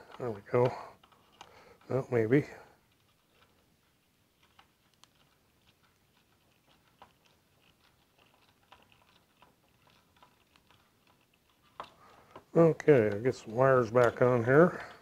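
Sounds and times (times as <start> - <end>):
small clicks and taps of handling: 0.0 - 2.0, 2.9 - 15.0.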